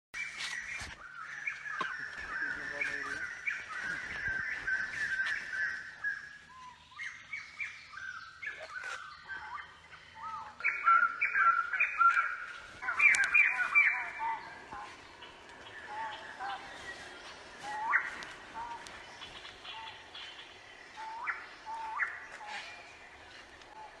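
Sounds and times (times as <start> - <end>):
birds chirping and calling: 0.2 - 24.0.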